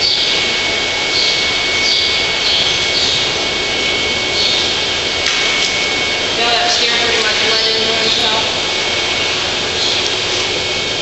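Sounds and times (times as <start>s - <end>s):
loud rushing noise: 0.0s - 11.0s
thin high whine: 0.0s - 11.0s.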